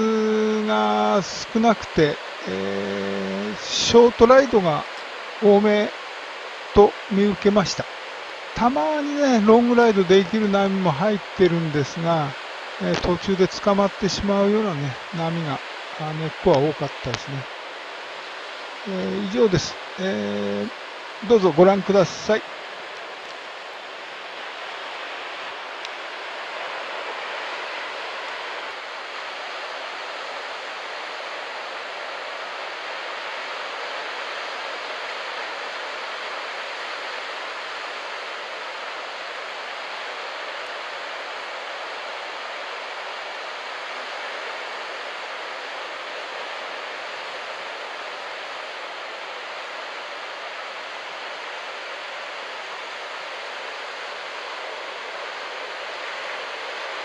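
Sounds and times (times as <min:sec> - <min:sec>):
ocean surf on a beach: 0:00.0 - 0:57.0.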